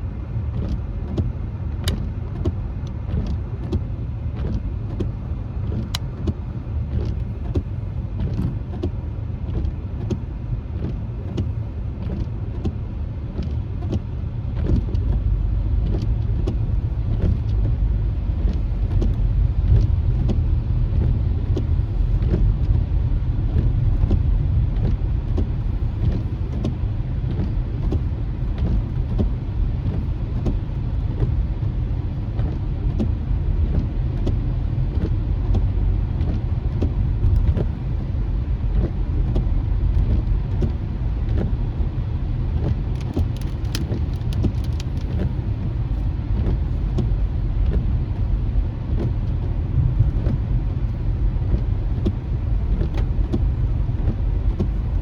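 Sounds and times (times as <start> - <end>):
tyres rumbling on wet road: 0.0 - 55.0
raindrops ticking on windshield: 0.2 - 55.0.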